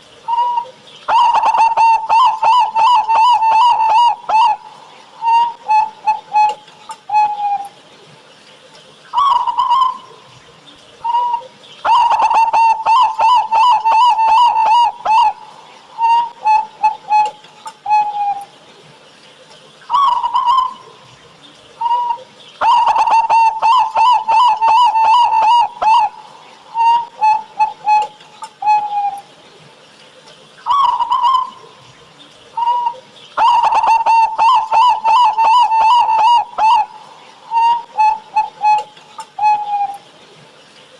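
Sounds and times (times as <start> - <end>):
dove cooing: 0.2 - 7.8, 9.2 - 18.6, 19.9 - 29.4, 30.6 - 40.1.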